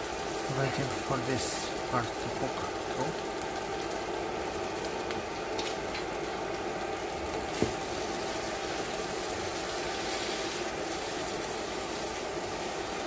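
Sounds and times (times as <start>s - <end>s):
omelet sizzling in a pan: 0.0s - 13.0s.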